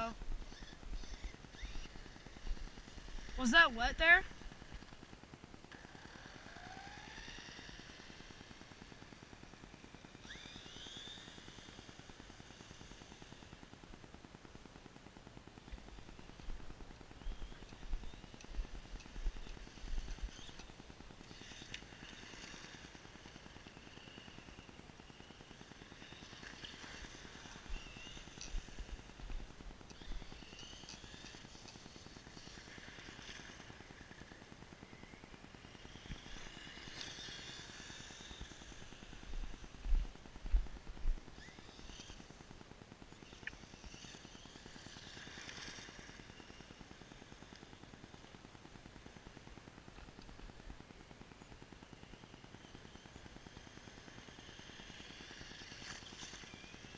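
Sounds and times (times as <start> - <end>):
electric motor whine: 0.0 - 14.2, 15.6 - 56.9.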